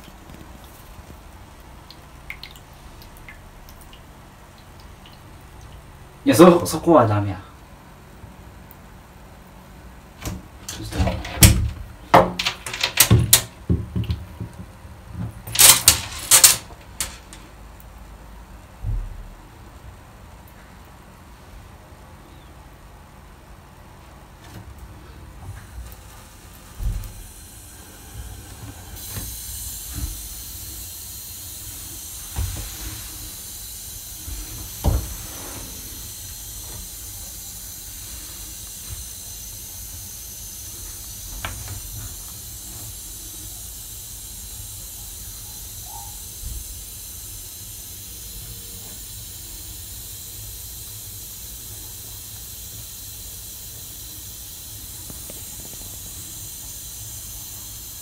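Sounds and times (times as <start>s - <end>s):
steady high hiss: 0.0s - 58.0s.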